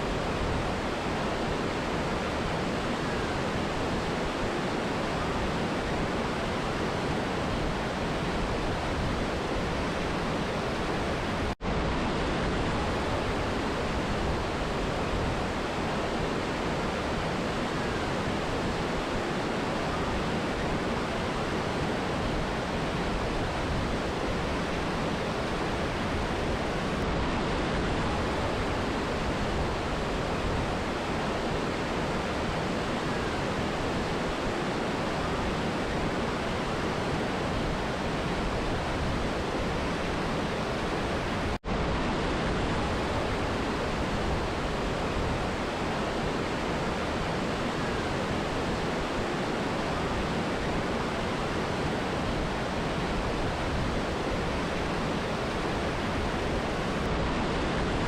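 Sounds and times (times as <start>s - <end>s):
river and waterfall rushing: 0.0s - 58.0s.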